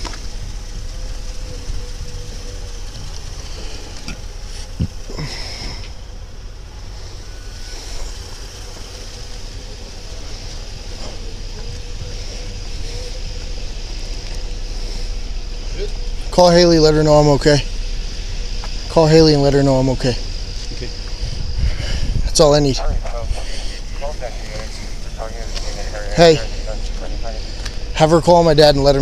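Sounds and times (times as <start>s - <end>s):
faint high whine: 0.0s - 29.0s
vehicles rumbling: 0.0s - 29.0s.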